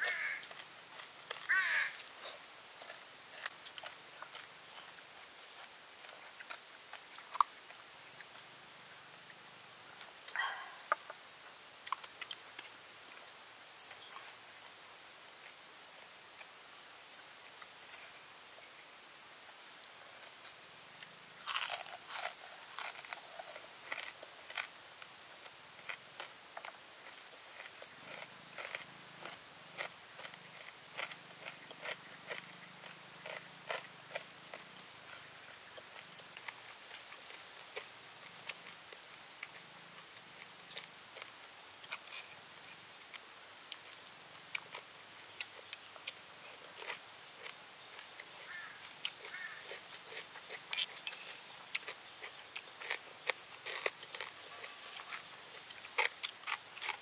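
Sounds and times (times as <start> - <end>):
crunching and chewing fried food: 0.0 - 9.5, 10.2 - 18.3, 19.8 - 57.0.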